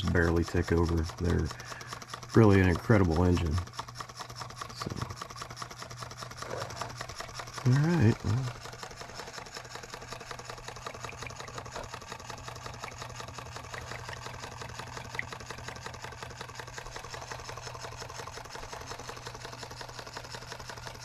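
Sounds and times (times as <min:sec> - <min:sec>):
engine clattering with light clicks: 0:00.0 - 0:21.0.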